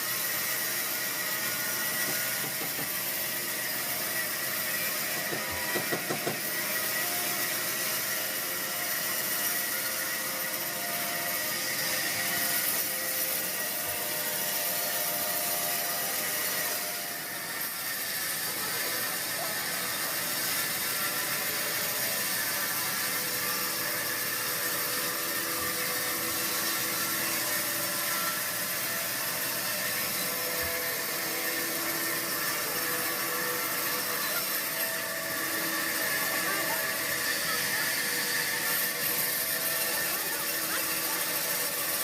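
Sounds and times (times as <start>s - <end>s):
sawmill machinery humming: 0.0s - 42.0s.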